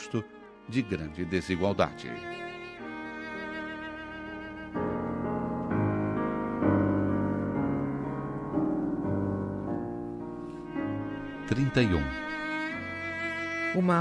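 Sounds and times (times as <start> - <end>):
violin cello and piano chords: 0.0 - 14.0.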